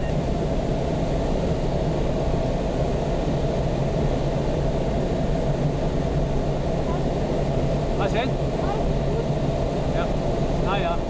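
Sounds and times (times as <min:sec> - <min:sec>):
rush of air around canopy: 0:00.0 - 0:11.0
steady low hum: 0:00.0 - 0:11.0.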